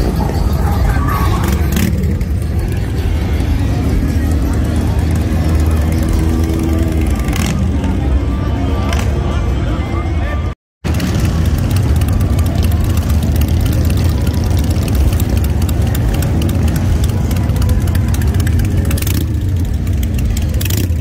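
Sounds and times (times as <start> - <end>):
motorcycle engines idling: 0.0 - 10.0, 10.9 - 21.0.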